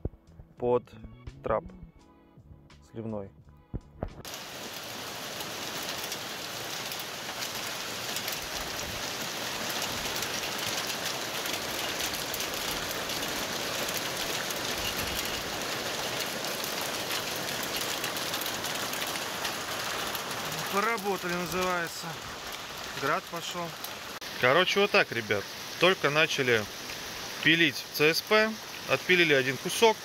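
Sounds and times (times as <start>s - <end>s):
hail falling: 4.2s - 30.0s.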